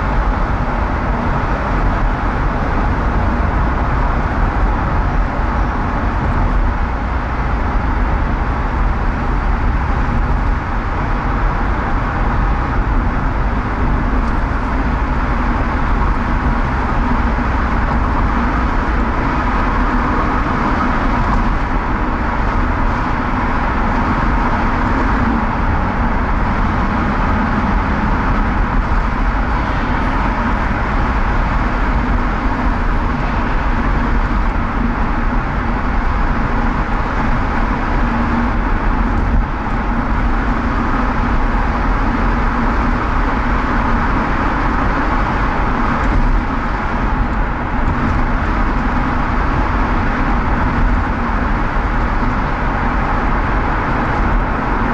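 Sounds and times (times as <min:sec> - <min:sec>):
car driving interior rumble: 0:00.0 - 0:54.9.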